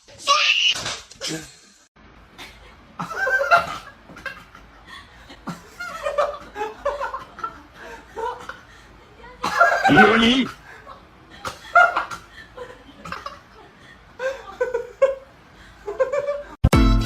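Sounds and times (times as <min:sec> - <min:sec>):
people laughing: 0:02.4 - 0:16.6.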